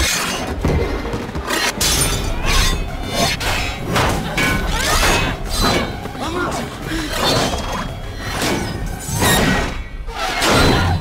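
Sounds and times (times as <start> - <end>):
film music score: 0.0 - 11.0.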